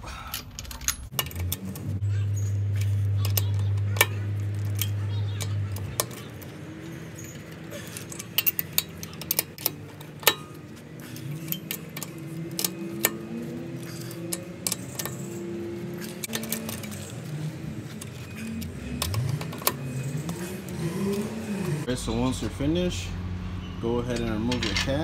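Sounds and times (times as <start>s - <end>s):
lug wrench clinking on lug nuts: 0.3s - 21.9s.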